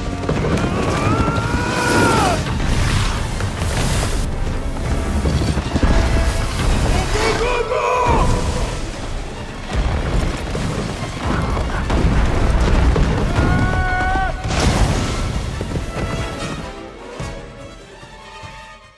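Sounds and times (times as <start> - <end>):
low rumble of crashing snow: 0.0 - 16.8
orchestral score: 0.0 - 18.9.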